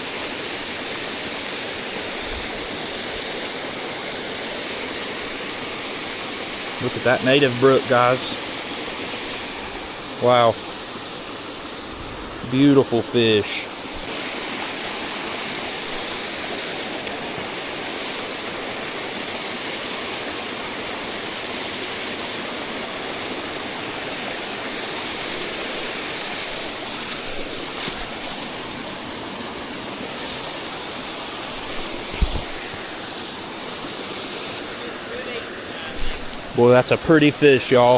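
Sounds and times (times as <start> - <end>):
brook water flowing: 0.0 - 37.9.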